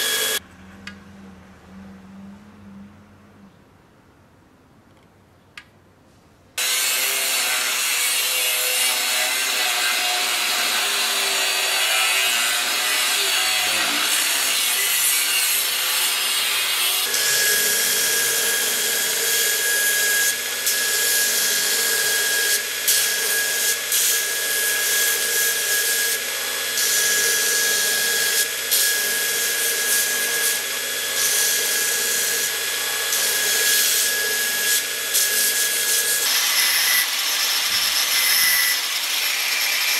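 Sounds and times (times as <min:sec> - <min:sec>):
belt grinder grinding steel: 0:00.0 - 0:00.4, 0:06.6 - 0:39.9.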